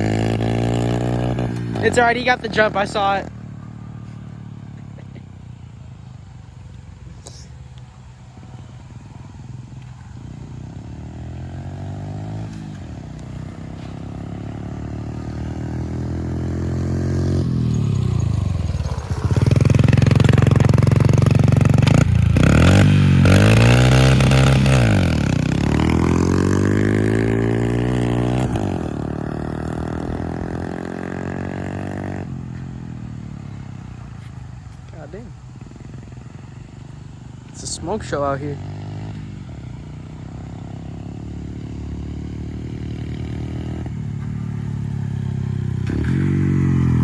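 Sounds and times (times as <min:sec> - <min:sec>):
small motorbike engine accelerating: 0:00.0 - 0:47.0.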